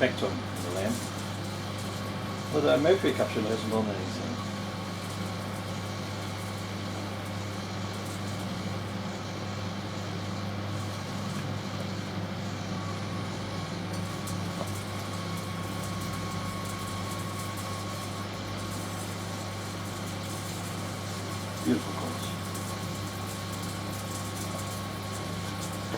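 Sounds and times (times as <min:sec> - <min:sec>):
microwave fan: 0:00.0 - 0:25.9
microwave oven hum: 0:00.0 - 0:25.9.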